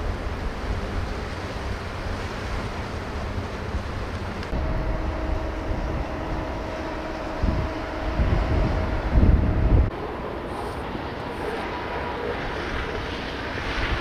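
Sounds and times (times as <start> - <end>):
low rumble with steady hum: 0.0 - 14.0
rushing river water: 0.0 - 14.0
wind buffeting microphone: 0.0 - 14.0.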